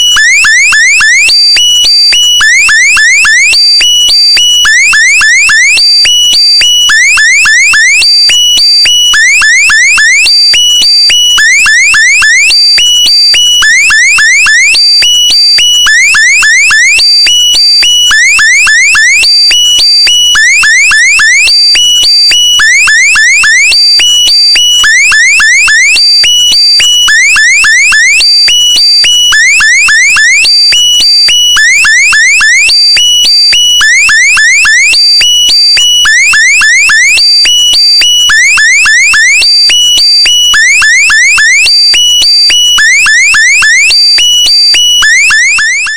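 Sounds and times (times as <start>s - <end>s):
electronic alarm-like chirps: 0.0s - 45.9s.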